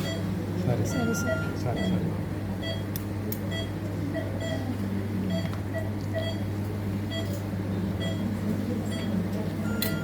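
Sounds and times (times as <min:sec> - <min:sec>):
patient monitor beeping: 0:00.0 - 0:02.9, 0:03.5 - 0:10.0.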